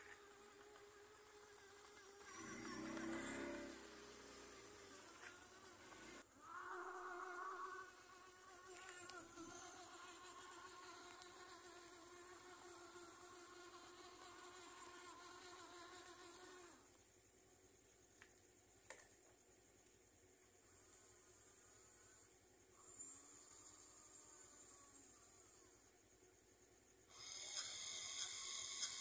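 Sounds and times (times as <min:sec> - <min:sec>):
small electric motors whining: 0:00.0 - 0:16.9, 0:20.8 - 0:25.9, 0:27.1 - 0:29.0.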